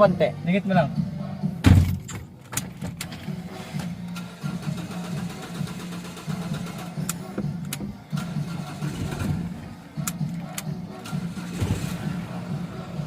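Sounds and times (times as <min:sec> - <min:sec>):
car engine idling: 0:01.0 - 0:13.0.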